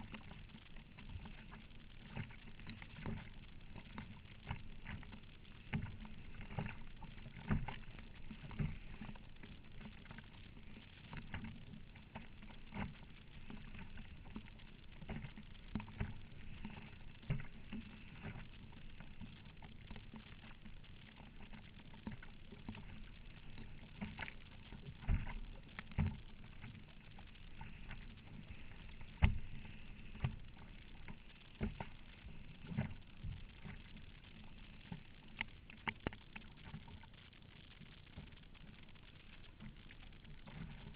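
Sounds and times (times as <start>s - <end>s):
choppy water splashing: 0.0s - 40.9s
waves slapping a kayak: 0.0s - 40.9s.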